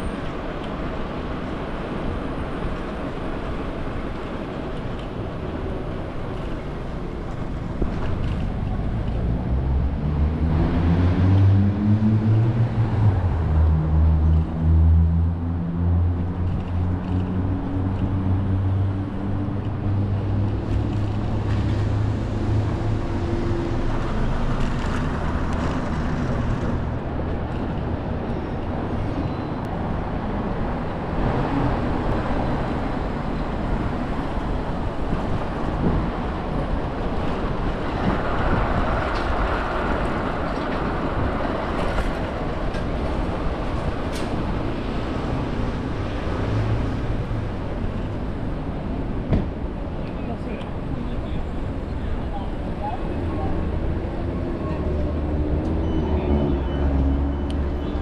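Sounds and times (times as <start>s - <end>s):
traffic noise: 0.0s - 58.0s.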